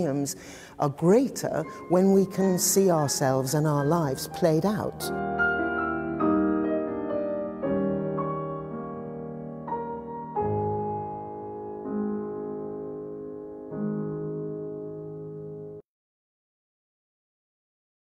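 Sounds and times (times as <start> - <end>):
slow soft piano music: 0.0 - 15.8.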